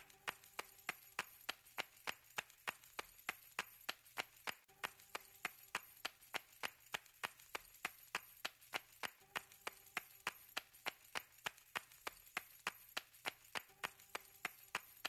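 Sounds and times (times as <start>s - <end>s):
sharp evenly spaced clicks: 0.0s - 15.0s.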